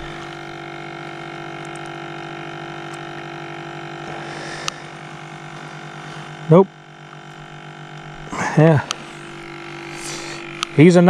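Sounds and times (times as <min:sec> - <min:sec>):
small electric motor humming: 0:00.0 - 0:11.0.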